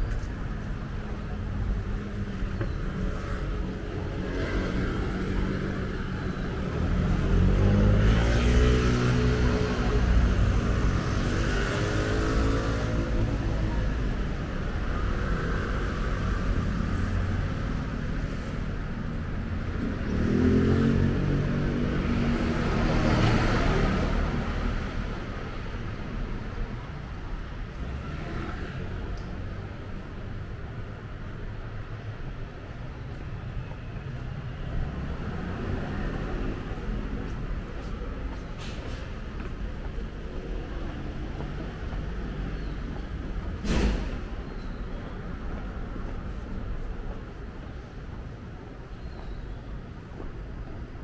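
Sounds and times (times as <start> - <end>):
background traffic noise: 0.0 - 51.0
vehicles passing close by: 0.0 - 51.0.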